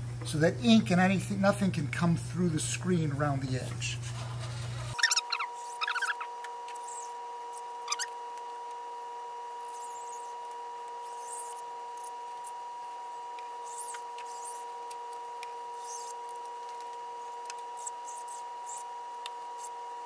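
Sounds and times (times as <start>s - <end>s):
high-pitched hum: 0.0s - 20.0s.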